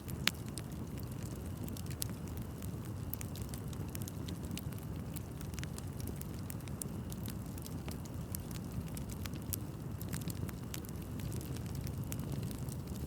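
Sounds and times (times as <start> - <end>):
bonfire crackling and popping: 0.0 - 13.0
low rumble of flames: 0.0 - 13.0.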